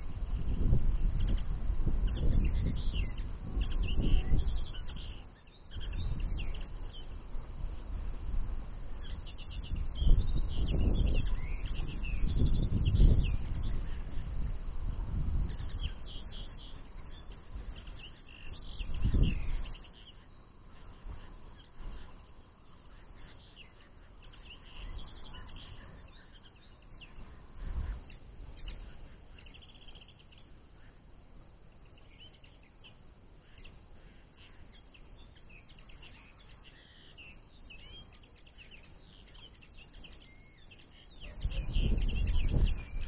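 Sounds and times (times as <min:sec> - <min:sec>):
linnets twittering: 0:00.0 - 0:43.0.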